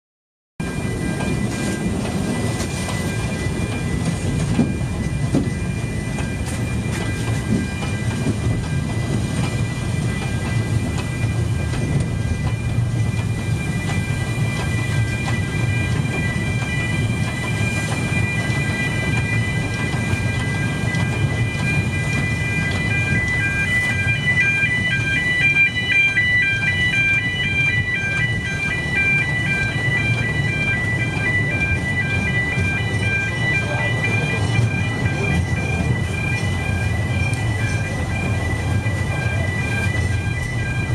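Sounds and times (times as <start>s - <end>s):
train wheels rumbling: 0.6s - 40.9s.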